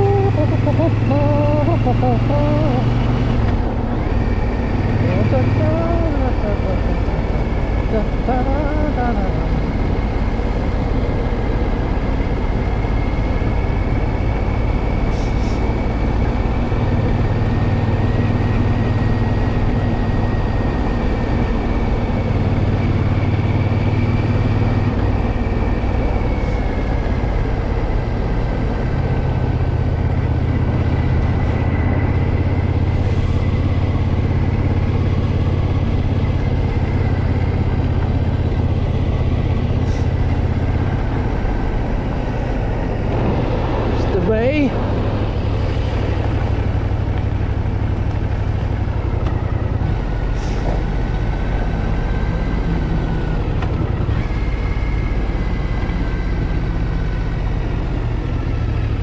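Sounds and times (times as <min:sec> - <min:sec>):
motorcycle engine running: 0:00.0 - 0:59.0
road and wind rush: 0:00.0 - 0:59.0.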